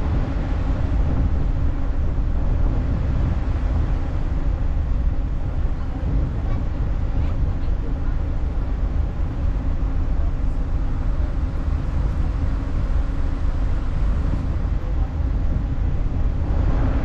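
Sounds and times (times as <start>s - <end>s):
ferry low rumble: 0.0s - 17.0s.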